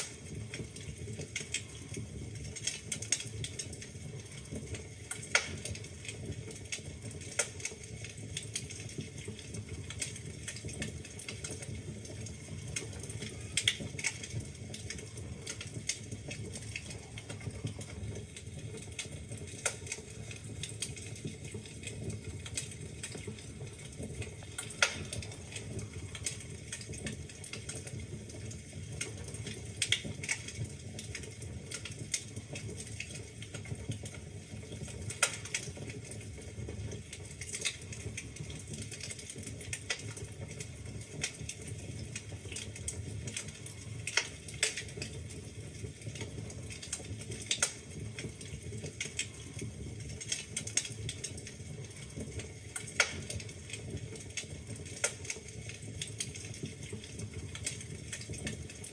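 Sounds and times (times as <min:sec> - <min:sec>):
logs crackling and popping: 0:00.0 - 0:58.9
low rumble of flames: 0:00.0 - 0:58.9.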